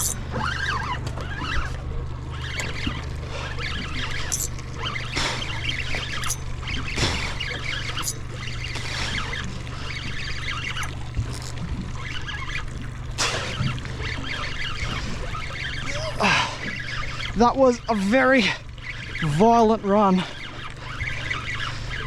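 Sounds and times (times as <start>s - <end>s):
outboard motor running: 0.0s - 22.0s
water splashing around hull: 0.0s - 22.0s.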